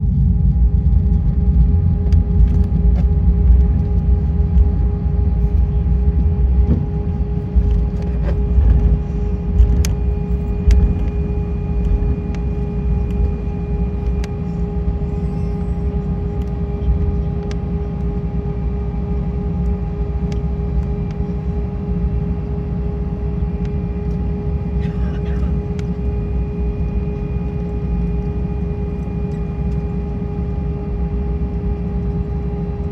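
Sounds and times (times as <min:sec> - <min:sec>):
low rumble: 0:00.0 - 0:29.9
aircraft engine hum: 0:00.0 - 0:32.9.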